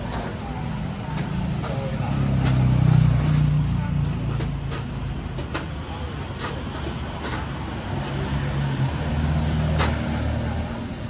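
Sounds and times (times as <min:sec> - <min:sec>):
faint background voices: 0:00.0 - 0:11.0.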